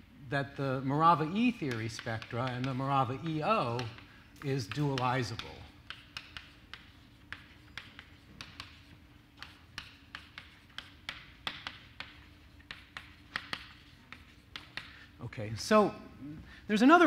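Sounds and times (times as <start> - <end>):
chalk tapping on blackboard: 1.0 - 15.2.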